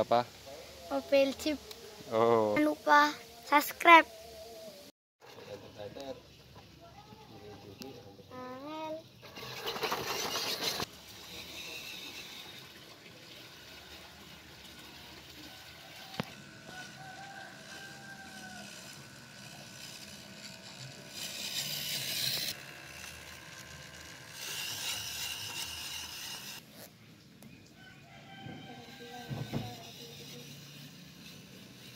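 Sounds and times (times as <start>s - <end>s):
toy car motor whining: 0.0s - 6.2s, 7.6s - 26.9s, 28.3s - 31.9s.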